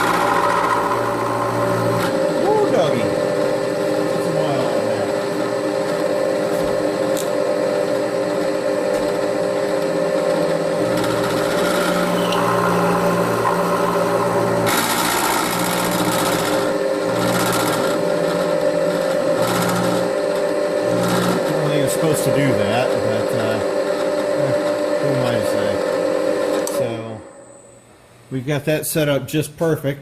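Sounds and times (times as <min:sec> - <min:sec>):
harsh metal cutting noise: 0:00.0 - 0:27.9
milling machine motor hum: 0:00.0 - 0:28.2.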